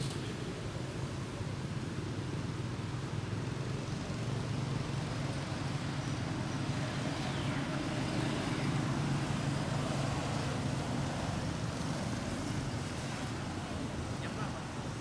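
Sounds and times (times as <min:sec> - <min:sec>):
motor traffic with engine drone: 0:00.0 - 0:15.0.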